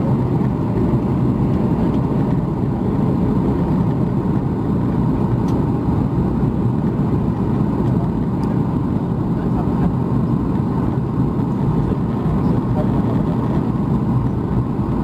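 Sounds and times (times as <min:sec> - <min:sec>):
jet engines rumbling: 0:00.0 - 0:15.0
rushing air: 0:00.0 - 0:15.0.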